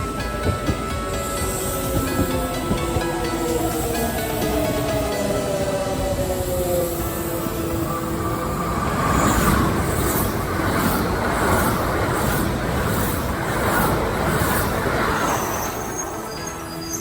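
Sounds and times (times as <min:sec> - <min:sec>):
wheels clattering over rail joints: 0:00.0 - 0:06.1, 0:08.3 - 0:16.7
train rushing past: 0:00.0 - 0:17.0.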